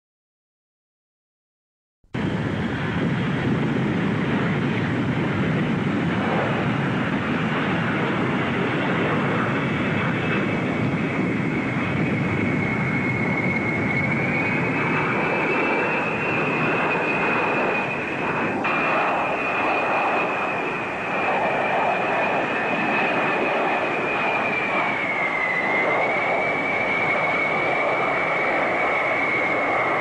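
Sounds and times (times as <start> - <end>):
high engine whine: 2.2 - 30.0
jet engines roaring: 2.2 - 30.0.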